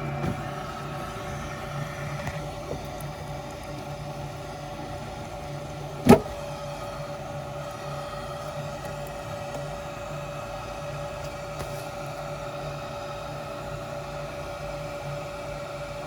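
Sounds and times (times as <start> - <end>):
furnace mechanical hum: 0.0 - 16.0.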